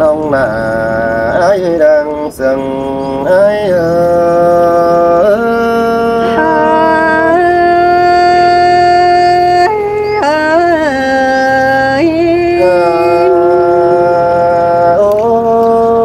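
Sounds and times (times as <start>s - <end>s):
person singing long held notes: 0.0s - 16.0s.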